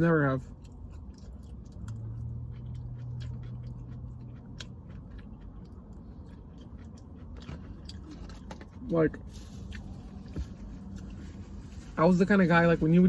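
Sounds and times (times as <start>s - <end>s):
chewing fried chicken: 0.0s - 13.0s
low steady hum: 0.0s - 13.0s.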